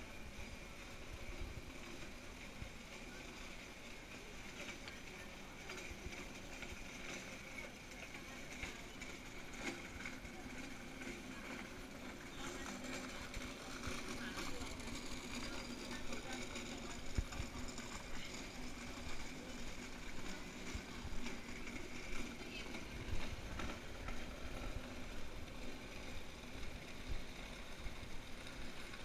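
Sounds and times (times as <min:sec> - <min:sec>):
murmur of distant voices: 0:00.0 - 0:29.0.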